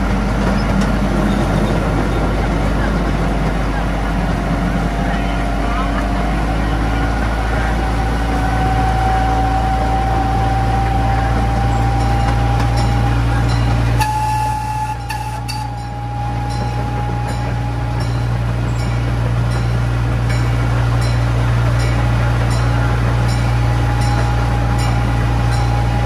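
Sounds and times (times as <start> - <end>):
train running along track: 0.0 - 26.0
high whine: 3.2 - 26.0.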